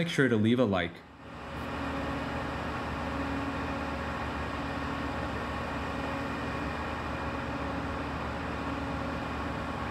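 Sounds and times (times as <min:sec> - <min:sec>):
diesel generator running: 0:00.0 - 0:09.9.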